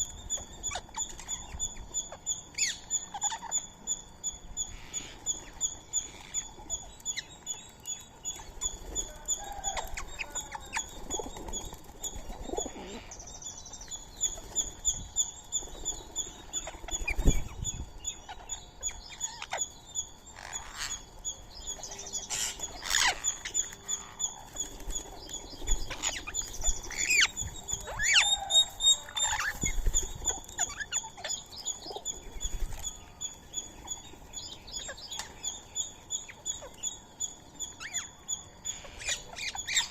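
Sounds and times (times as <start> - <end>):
assorted bird calls: 0.0 - 39.9
high repeated bird chirps: 0.0 - 39.9.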